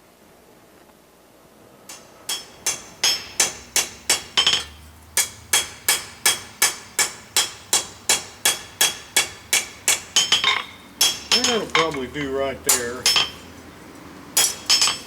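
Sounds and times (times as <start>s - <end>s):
hammer striking steel on anvil: 1.9s - 13.5s, 14.4s - 15.0s.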